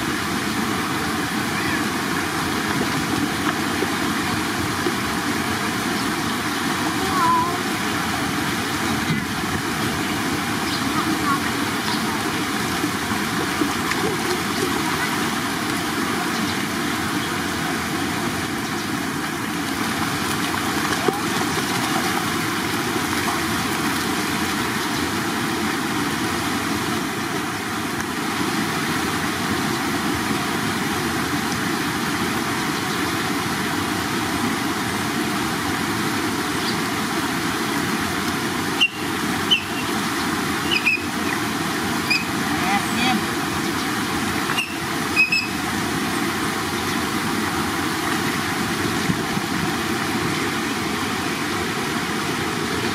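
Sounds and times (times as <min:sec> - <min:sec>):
running water flowing: 0:00.0 - 0:52.9.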